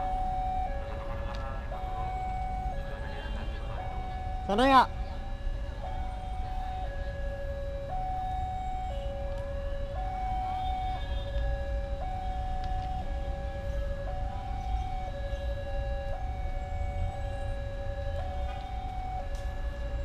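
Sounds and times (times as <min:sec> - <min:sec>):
two-tone siren: 0:00.0 - 0:20.0.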